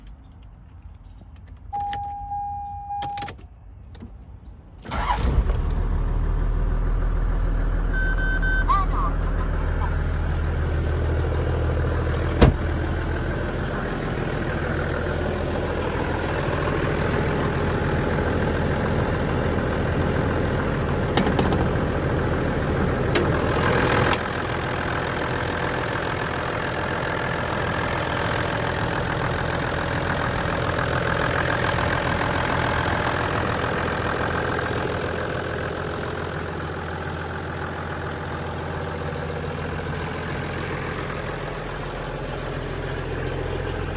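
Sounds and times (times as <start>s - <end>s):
diesel engine idling: 4.9s - 43.9s.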